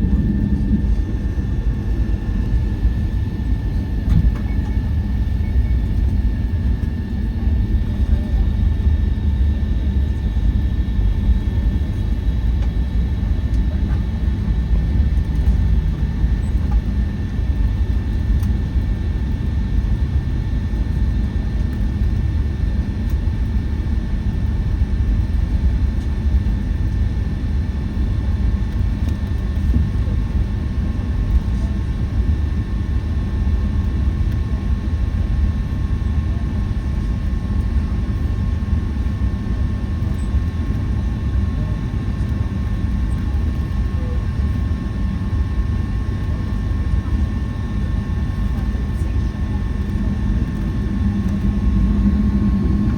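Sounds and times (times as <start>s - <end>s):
aircraft cabin rumble: 0.0s - 52.9s.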